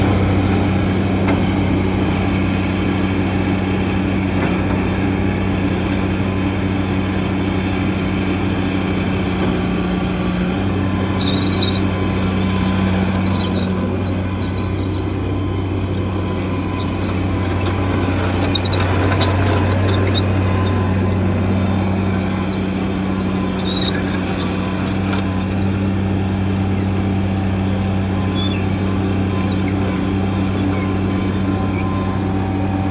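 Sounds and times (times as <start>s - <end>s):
loader engine running: 0.0s - 32.9s.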